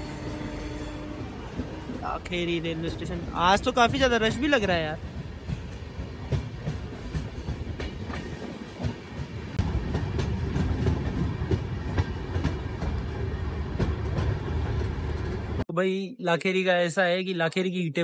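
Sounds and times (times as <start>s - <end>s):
train wheels rumbling: 0.0s - 15.6s.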